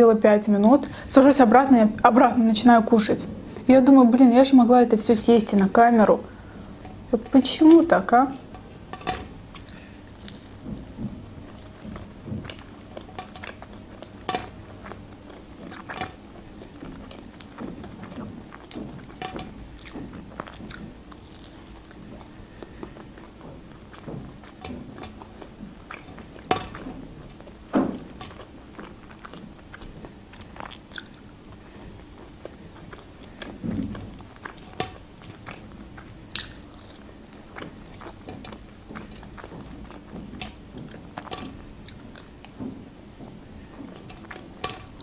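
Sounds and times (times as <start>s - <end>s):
biting and chewing food: 6.3s - 45.0s.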